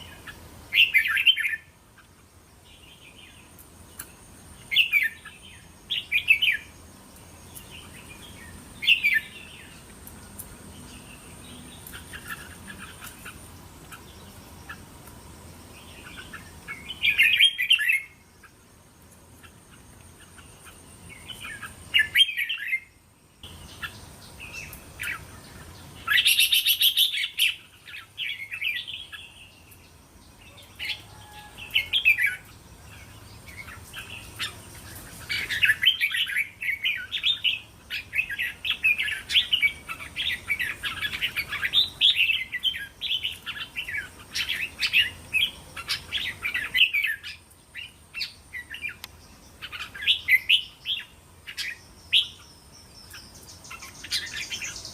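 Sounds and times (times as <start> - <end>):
bulbuls singing and chattering: 0.0 - 54.9.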